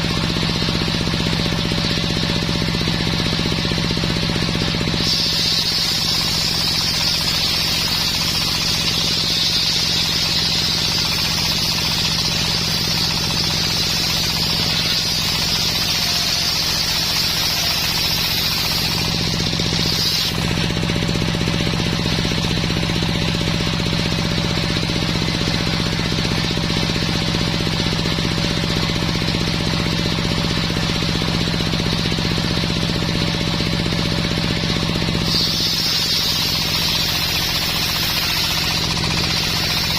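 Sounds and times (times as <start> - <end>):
saw blade cutting wood: 0.0 - 27.4, 33.7 - 39.9
sawmill machine hum: 0.0 - 39.9.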